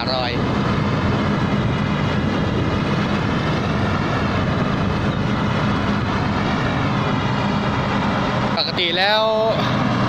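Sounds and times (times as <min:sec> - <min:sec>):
combine harvester diesel engine: 0:00.0 - 0:10.0.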